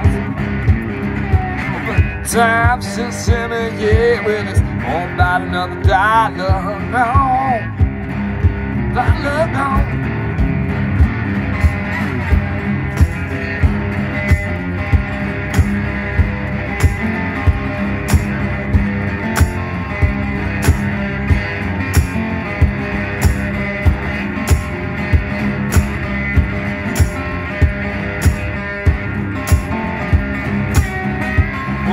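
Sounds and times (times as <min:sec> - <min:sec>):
resonator guitar: 0:00.0 - 0:31.9.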